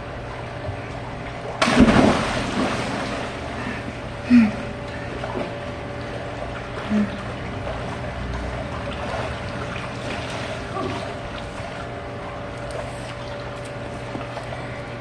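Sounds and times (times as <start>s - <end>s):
pool water sloshing and splashing: 0.0s - 15.0s
steady low hum: 0.0s - 15.0s.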